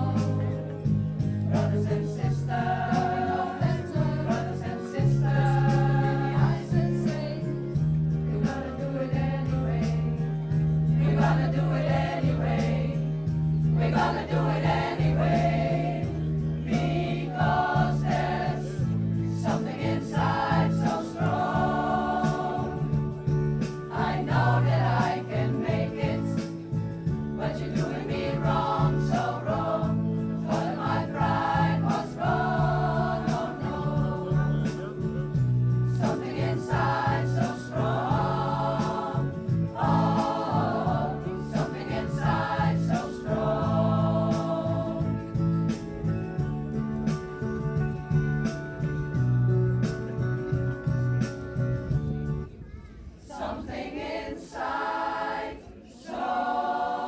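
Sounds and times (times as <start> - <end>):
women's choir singing: 0.0 - 0.7, 1.4 - 23.2, 23.8 - 26.7, 27.3 - 34.7, 35.9 - 45.6, 53.2 - 57.0
low held accompaniment: 0.0 - 52.6.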